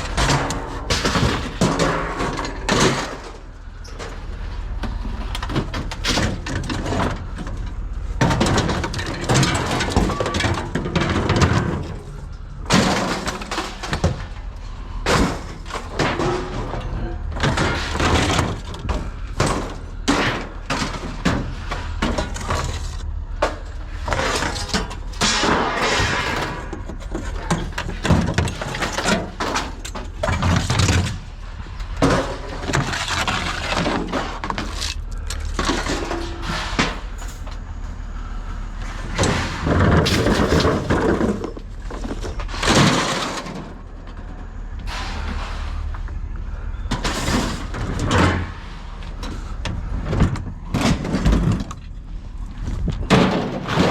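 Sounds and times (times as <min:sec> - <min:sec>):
scrap metal clattering: 0:00.0 - 0:53.9.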